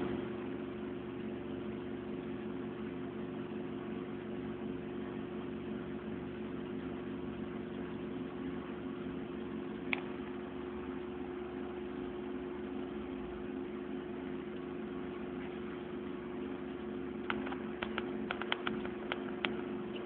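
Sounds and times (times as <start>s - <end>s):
computer fans humming: 0.0s - 20.0s.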